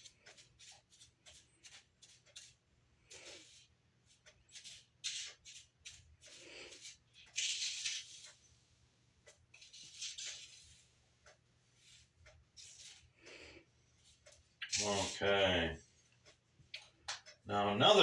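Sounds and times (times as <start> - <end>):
rustling and scraping handling: 0.0 - 18.0.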